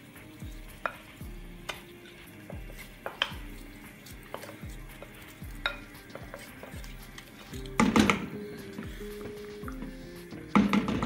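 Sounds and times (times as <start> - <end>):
background music with low beat: 0.0 - 11.0
wooden spatula scraping and clinking: 0.5 - 11.0.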